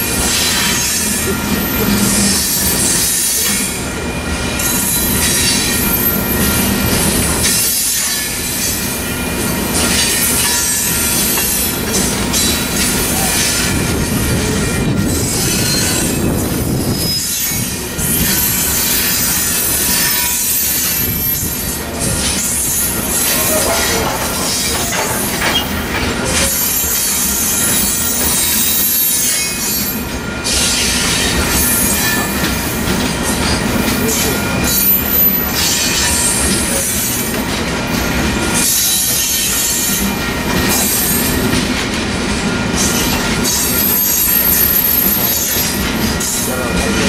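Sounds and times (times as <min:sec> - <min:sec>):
high wheel squeal: 0:00.0 - 0:37.2, 0:37.9 - 0:41.7, 0:42.4 - 0:47.0
freight train rolling past: 0:00.0 - 0:47.0.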